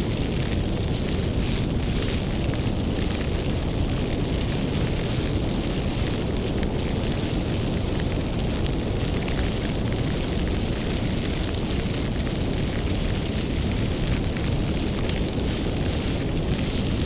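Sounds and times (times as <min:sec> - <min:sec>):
fire crackles and pops: 0:00.0 - 0:17.0
wood fire rumbling: 0:00.0 - 0:17.0.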